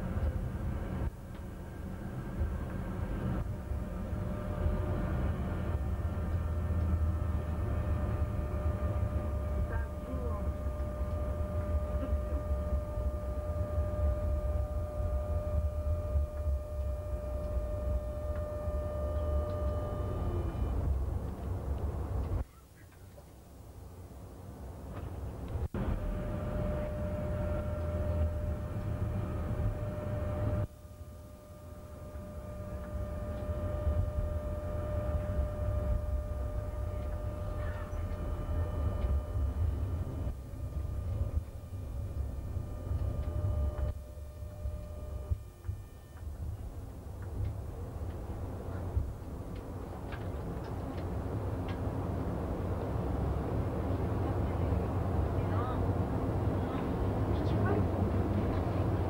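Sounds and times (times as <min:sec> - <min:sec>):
steady high whine: 0:00.0 - 0:22.4, 0:24.4 - 0:59.0
steady high hum: 0:00.0 - 0:22.5, 0:23.5 - 0:59.0
tram rumbling on track: 0:00.0 - 0:22.5, 0:24.4 - 0:30.7, 0:31.6 - 0:59.0.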